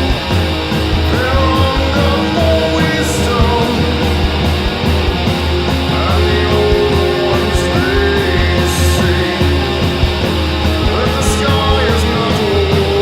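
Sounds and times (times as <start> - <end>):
distorted electric guitars: 0.0 - 13.0
heavy low end: 0.0 - 13.0.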